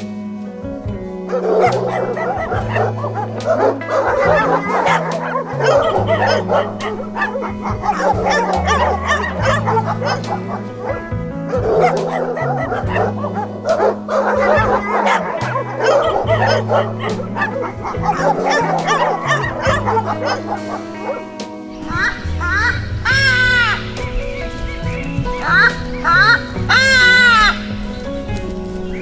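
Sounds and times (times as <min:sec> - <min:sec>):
background music with bass: 0:00.0 - 0:29.0
dogs barking and whimpering: 0:01.0 - 0:29.0.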